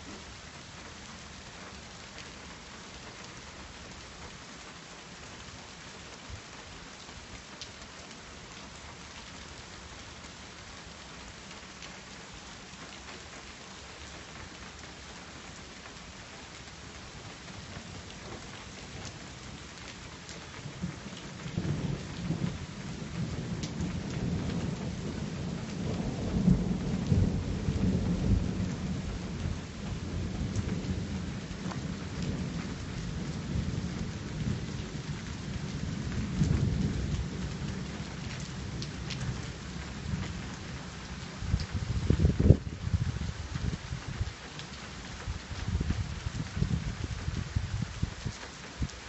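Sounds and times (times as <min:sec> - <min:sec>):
rain hiss and patter: 0:00.0 - 0:49.0.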